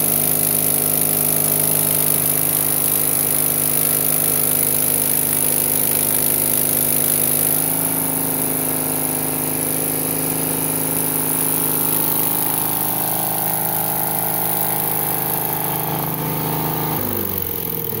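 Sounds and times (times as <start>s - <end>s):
welder engine running: 0.0s - 18.0s.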